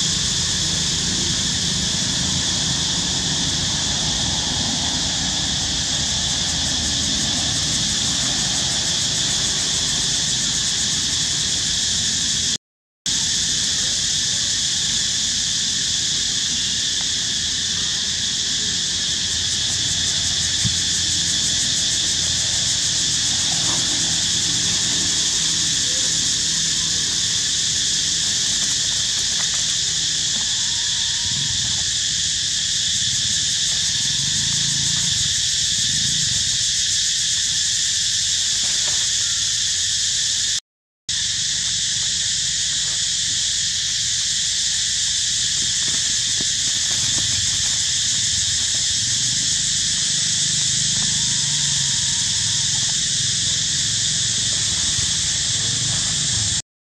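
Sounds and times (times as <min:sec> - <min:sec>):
high-pitched insect chorus: 0:00.0 - 0:56.6.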